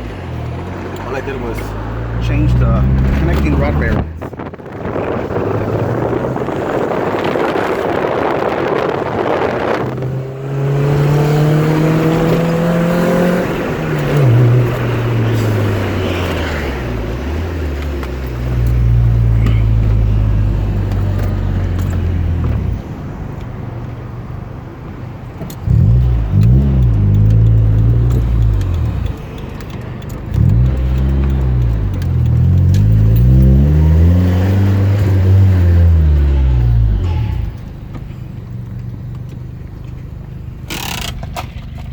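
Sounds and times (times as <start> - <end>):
car engine revving: 0.0 - 22.9, 25.4 - 39.0.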